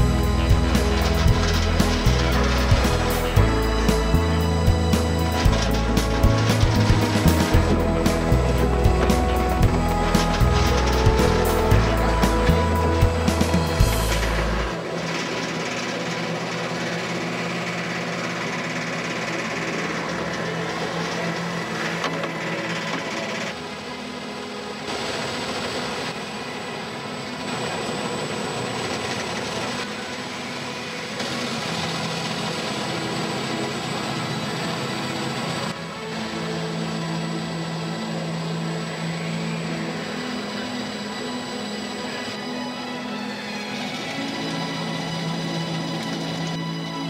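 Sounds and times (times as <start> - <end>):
machinery whirring and rattling: 0.0 - 47.0.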